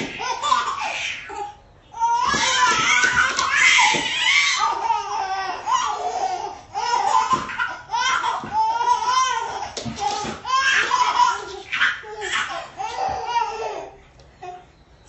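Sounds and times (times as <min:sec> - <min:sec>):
babies laughing and squealing: 0:00.0 - 0:14.7.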